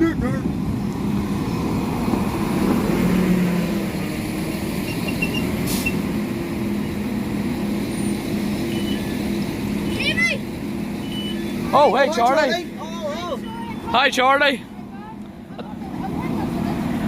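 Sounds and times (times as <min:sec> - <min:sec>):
diesel train engines humming: 0:00.0 - 0:17.0.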